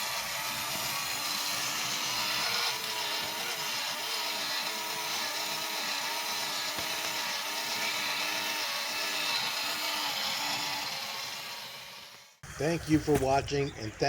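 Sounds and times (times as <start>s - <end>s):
toy motor and gears whirring: 0.0s - 12.4s.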